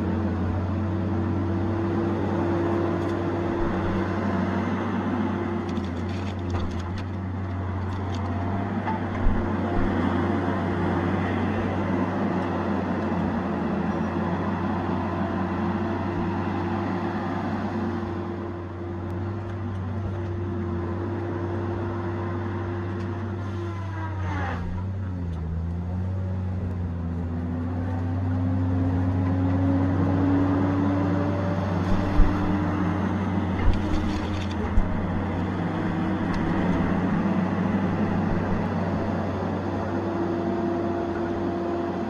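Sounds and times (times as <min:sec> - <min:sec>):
diesel engine and hydraulics: 0:00.0 - 0:42.0.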